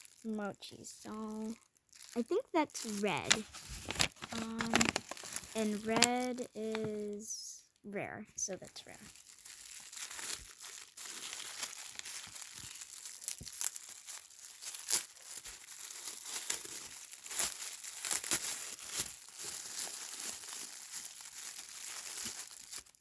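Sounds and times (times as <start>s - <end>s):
packaging crinkling: 0.0s - 7.2s, 8.4s - 23.0s.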